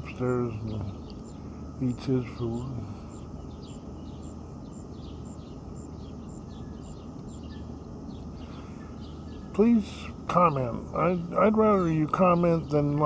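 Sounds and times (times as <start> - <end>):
bird chirping: 0.0 - 13.0
steady background hiss: 0.0 - 13.0.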